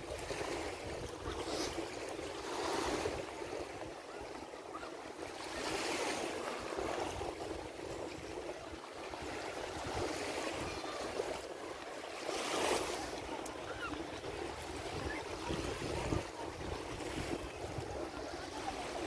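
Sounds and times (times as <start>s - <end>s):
waves washing onto sandy beach: 0.0s - 19.0s.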